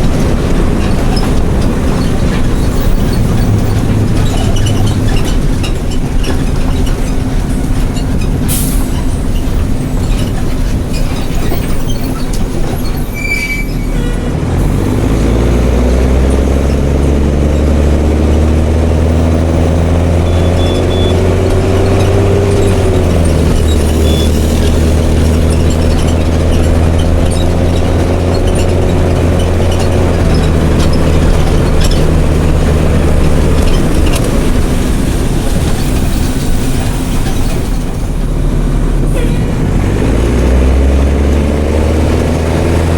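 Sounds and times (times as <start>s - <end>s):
brake squeal: 0.0s - 42.9s
bus diesel engine rumble: 0.0s - 42.9s.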